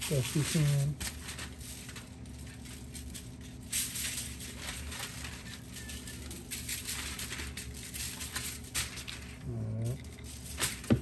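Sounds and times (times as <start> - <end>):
aluminium foil crinkling: 0.0 - 11.0
faint steady hum: 0.0 - 11.0.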